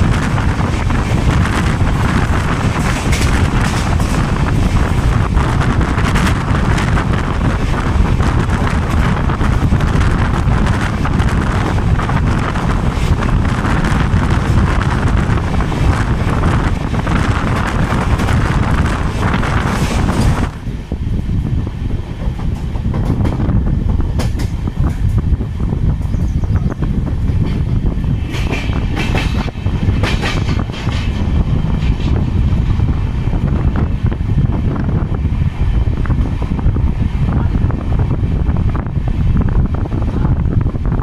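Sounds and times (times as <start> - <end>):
train rushing on rails: 0.0 - 41.0.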